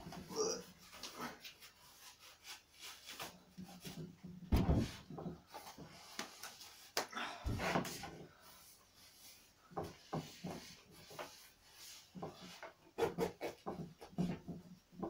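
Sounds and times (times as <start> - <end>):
rubbing and rustling of rubber: 0.0 - 15.0.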